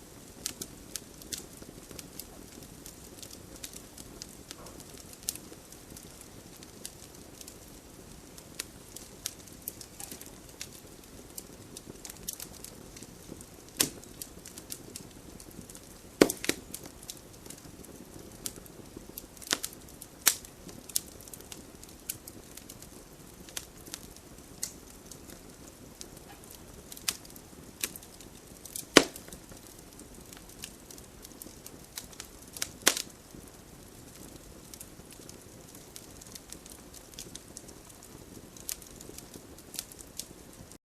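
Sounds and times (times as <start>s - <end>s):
campfire crackling and popping: 0.0s - 40.8s
soft steady hiss: 0.0s - 40.8s.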